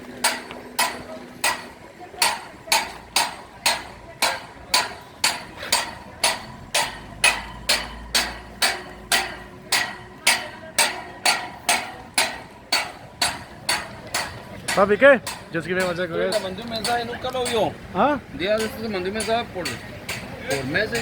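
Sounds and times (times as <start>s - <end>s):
hammer blows ringing: 0.0s - 21.0s.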